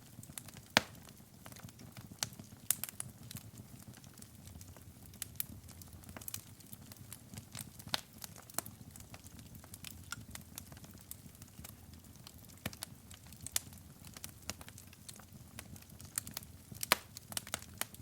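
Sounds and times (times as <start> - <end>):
fire flames roaring softly: 0.0 - 18.0
logs popping and crackling: 0.1 - 18.0.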